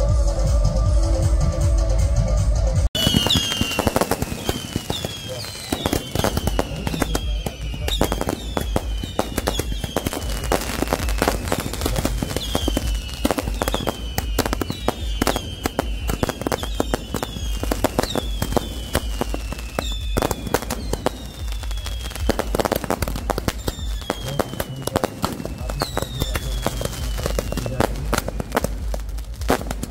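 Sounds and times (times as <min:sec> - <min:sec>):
fireworks bangs and crackles: 0:02.9 - 0:29.9
fireworks falling whistles: 0:03.0 - 0:29.9.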